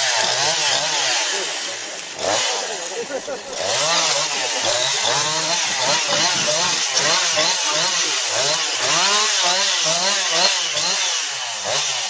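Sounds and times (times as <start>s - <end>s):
chainsaw cutting branches: 0.0s - 12.0s.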